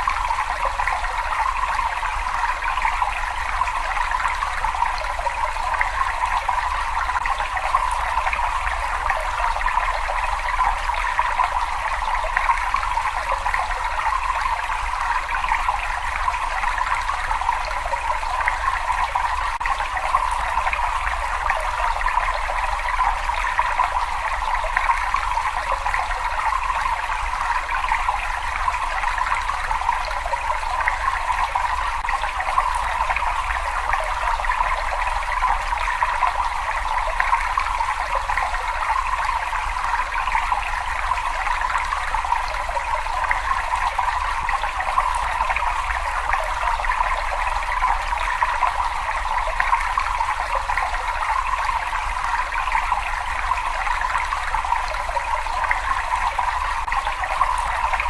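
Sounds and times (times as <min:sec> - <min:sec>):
running water trickling: 0:00.0 - 0:58.0.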